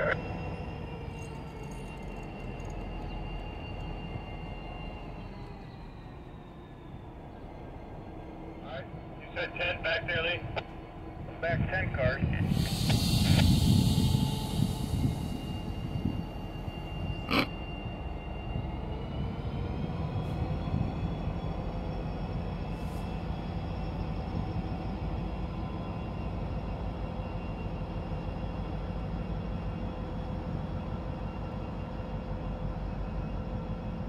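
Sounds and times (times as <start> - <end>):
high engine whine: 0.0 - 34.0
locomotive diesel engine rumbling: 0.0 - 34.0.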